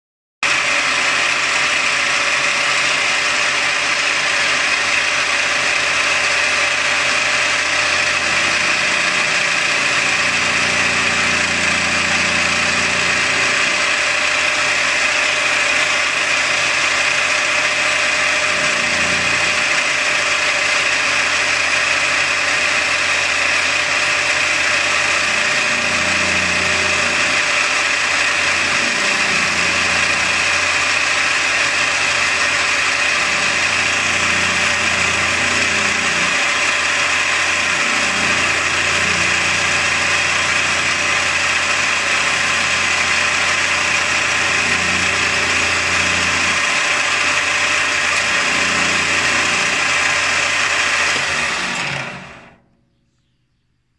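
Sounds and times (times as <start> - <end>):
metal lathe tool whine: 0.4 - 52.6
lathe motor hum: 0.4 - 52.7.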